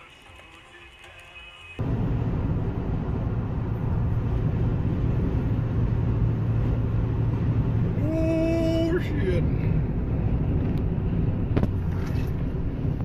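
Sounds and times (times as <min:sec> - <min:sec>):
road and wind noise in car: 0:01.8 - 0:13.0.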